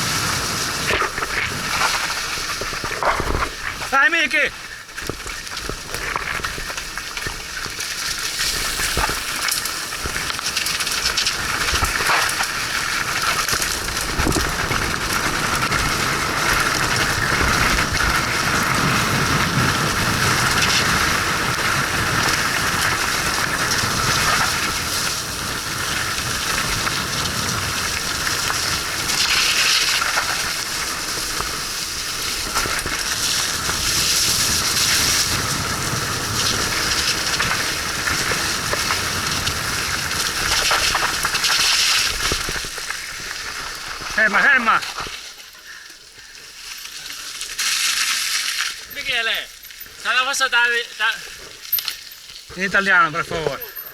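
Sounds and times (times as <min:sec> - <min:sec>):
bike tyres rolling through wet mud: 0:00.0 - 0:53.9.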